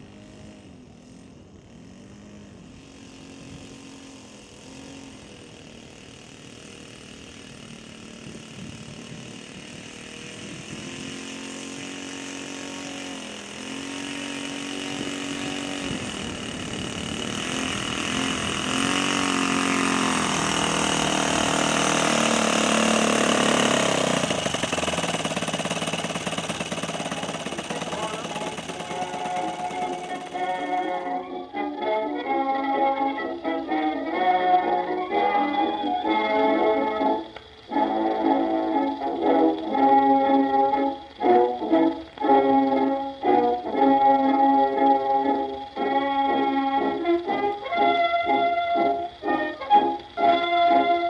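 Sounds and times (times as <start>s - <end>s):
model airplane engine running: 0.0s - 51.0s.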